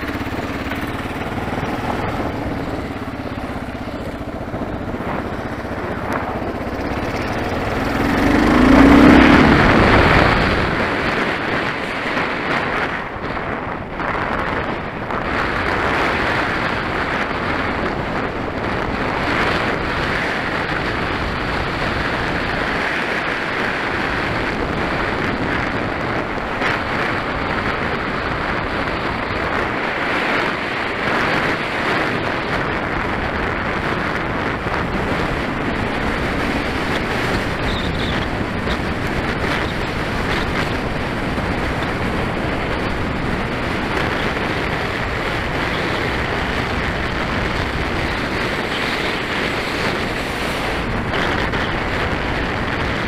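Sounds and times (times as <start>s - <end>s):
motorcycle engine revving: 0.0s - 53.0s
wind over the microphone: 0.0s - 53.0s.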